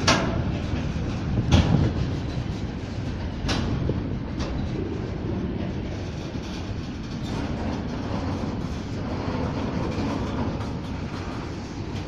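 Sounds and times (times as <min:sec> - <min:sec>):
freight train wheels rolling: 0:00.0 - 0:12.0.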